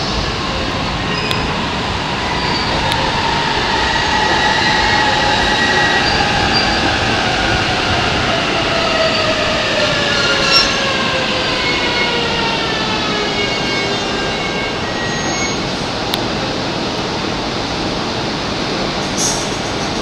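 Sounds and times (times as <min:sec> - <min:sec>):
wheel and rail noise: 0:00.0 - 0:20.0.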